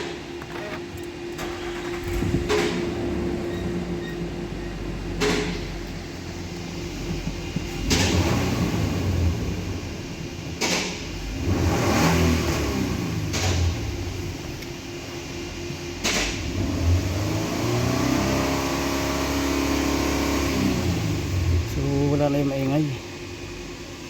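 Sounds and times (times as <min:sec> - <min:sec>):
car engine revving: 0:00.3 - 0:23.0.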